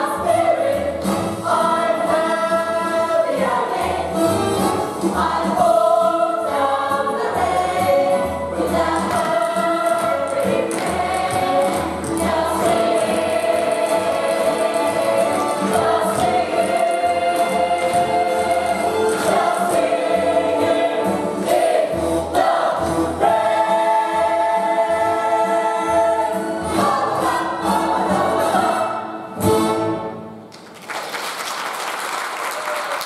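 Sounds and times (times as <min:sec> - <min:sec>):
ensemble singing in chorus: 0:00.0 - 0:29.4
musical accompaniment: 0:00.0 - 0:30.9.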